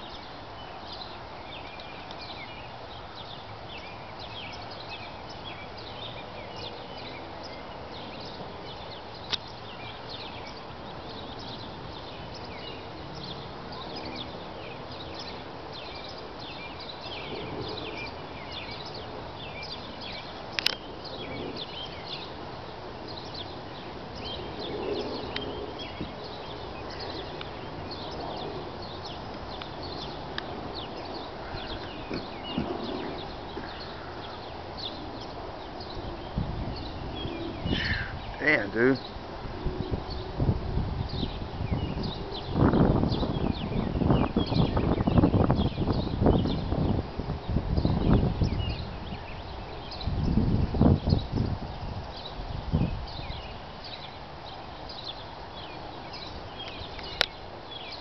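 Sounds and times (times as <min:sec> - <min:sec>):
outdoor background noise: 0:00.0 - 0:58.0.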